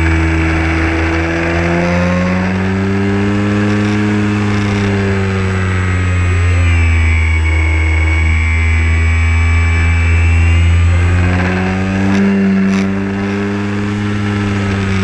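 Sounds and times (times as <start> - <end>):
model airplane motor and propeller: 0.0 - 15.0.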